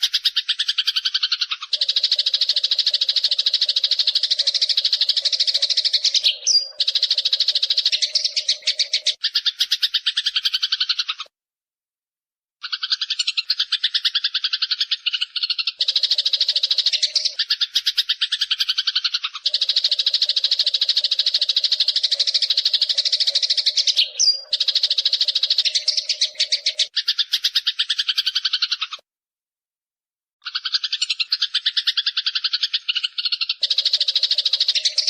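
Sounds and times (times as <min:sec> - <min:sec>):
sparrow chirping: 0:00.0 - 0:11.3, 0:12.6 - 0:29.0, 0:30.4 - 0:35.0.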